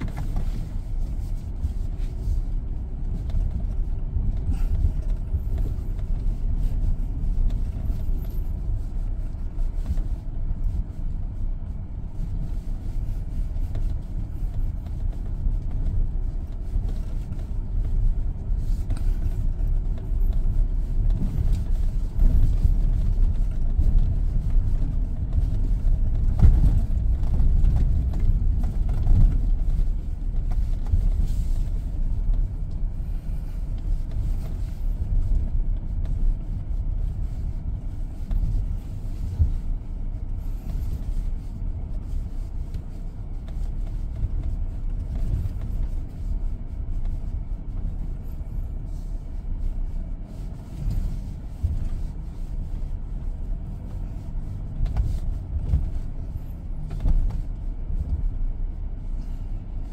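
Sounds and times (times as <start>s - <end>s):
pickup engine rumbling: 0.0s - 59.9s.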